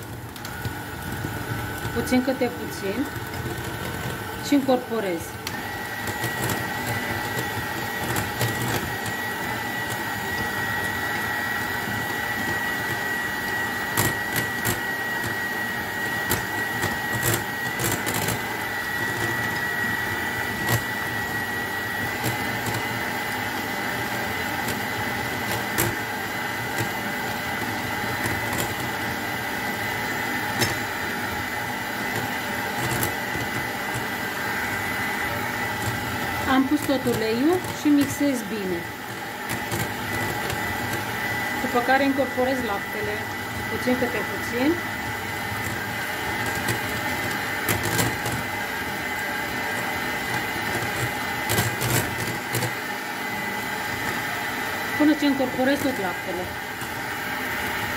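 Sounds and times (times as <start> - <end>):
electric hand mixer whining: 0.0 - 57.9.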